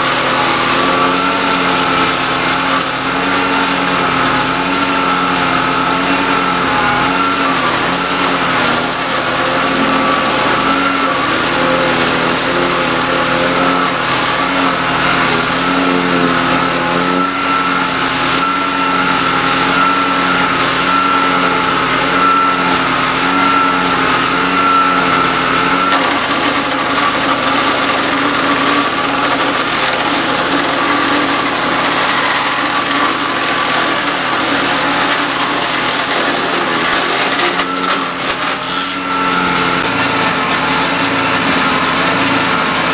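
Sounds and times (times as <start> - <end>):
wood chipper engine running: 0.0 - 42.9.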